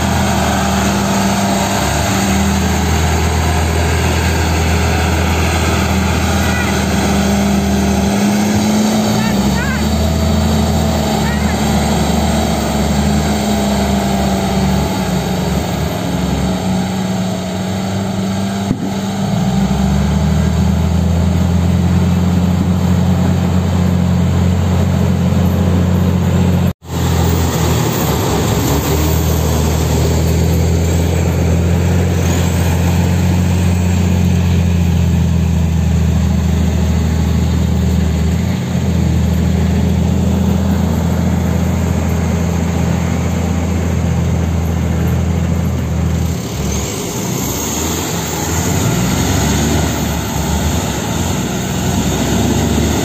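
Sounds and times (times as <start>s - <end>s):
diesel truck engines droning: 0.0s - 53.0s.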